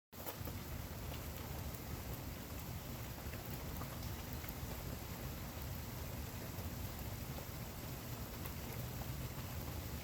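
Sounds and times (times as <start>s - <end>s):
raindrop ticks: 0.2s - 10.0s
steady rain hiss: 0.2s - 10.0s.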